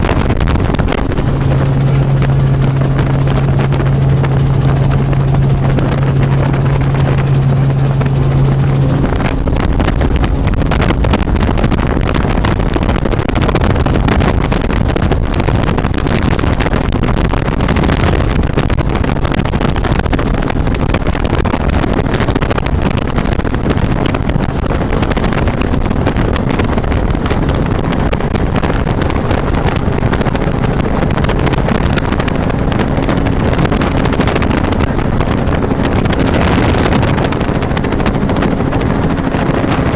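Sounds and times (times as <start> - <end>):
helicopter engine and rotor noise: 0.0 - 39.9.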